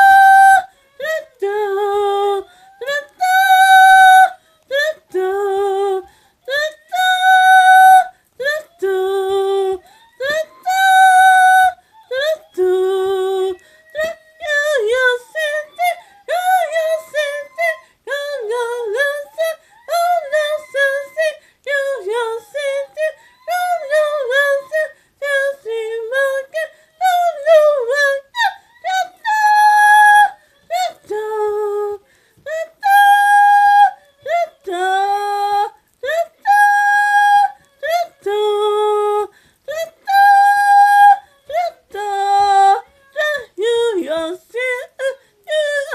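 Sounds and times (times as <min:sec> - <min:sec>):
high voice yodel-like singing: 0:00.0 - 0:45.9.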